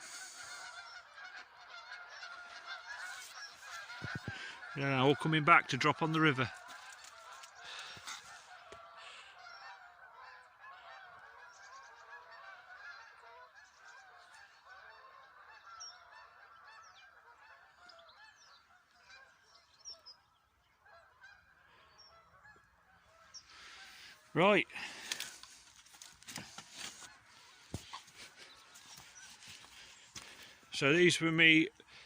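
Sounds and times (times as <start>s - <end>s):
geese honking in flight: 0.0s - 32.0s.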